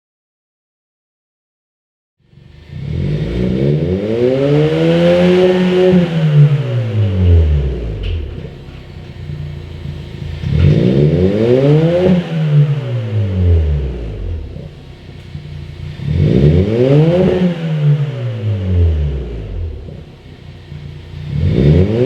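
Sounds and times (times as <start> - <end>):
car engine revving: 2.3 - 22.0.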